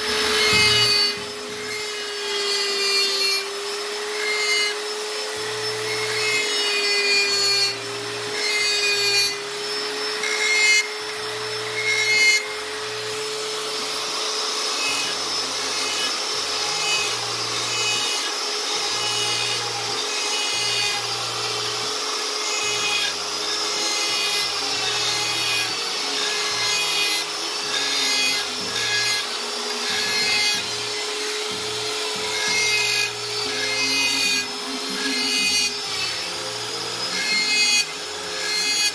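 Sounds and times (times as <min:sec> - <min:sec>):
die grinder grinding wood: 0:00.0 - 0:38.9.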